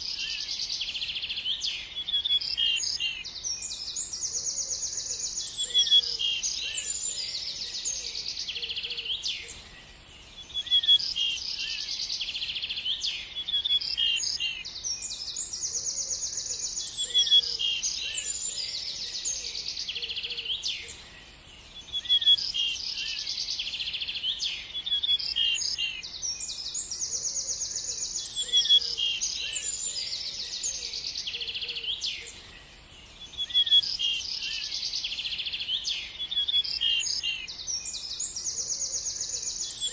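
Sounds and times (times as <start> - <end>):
small birds trilling and chirping: 0.0 - 39.9.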